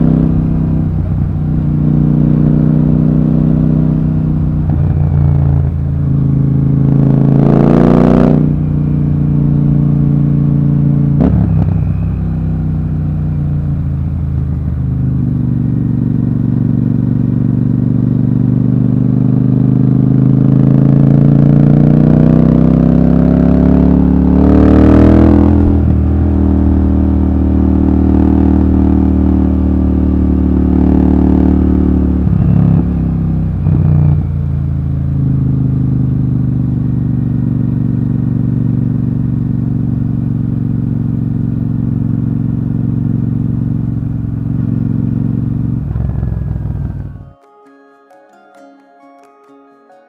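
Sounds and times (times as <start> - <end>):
motorcycle engine revving: 0.0 - 47.1.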